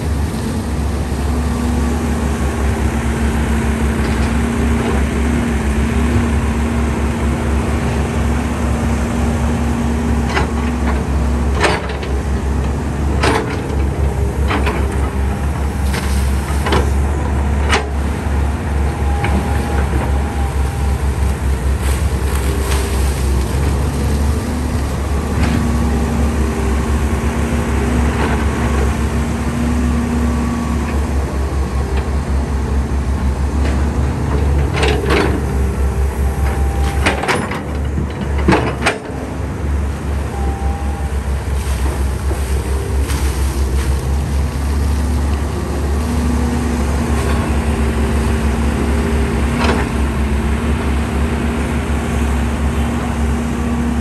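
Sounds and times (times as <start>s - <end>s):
engine whine: 0.0s - 54.0s
excavator diesel engine rumble: 0.0s - 54.0s.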